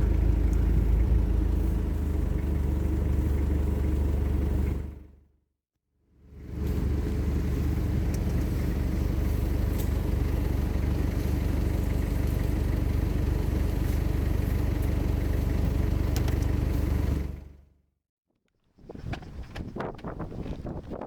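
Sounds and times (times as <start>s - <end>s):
vehicle engine rumbling: 0.0s - 5.3s, 6.2s - 17.8s.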